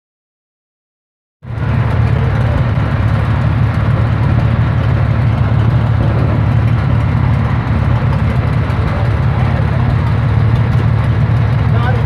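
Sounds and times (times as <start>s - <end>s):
fire engine motor running loudly: 1.4s - 12.0s.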